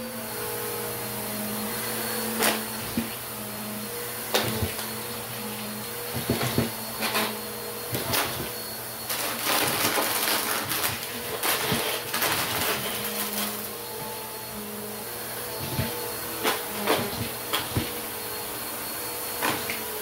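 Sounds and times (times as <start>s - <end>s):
vacuum cleaner motor humming: 0.0s - 20.0s.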